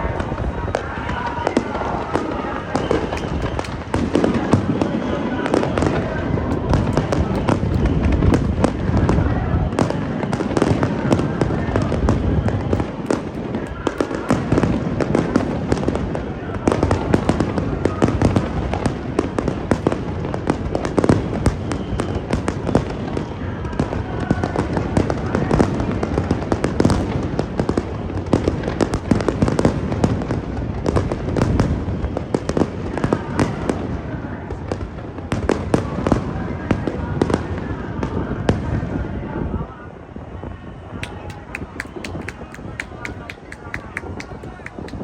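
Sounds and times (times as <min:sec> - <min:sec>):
fireworks bangs and crackles: 0:00.0 - 0:39.6, 0:41.0 - 0:45.0.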